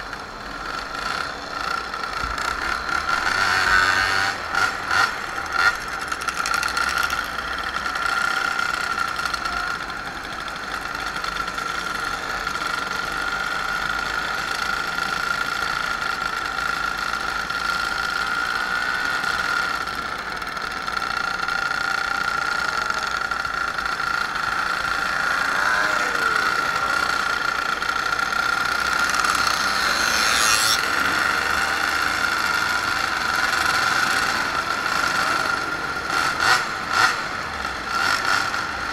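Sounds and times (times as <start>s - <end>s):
moped engines whining: 0.0s - 38.9s.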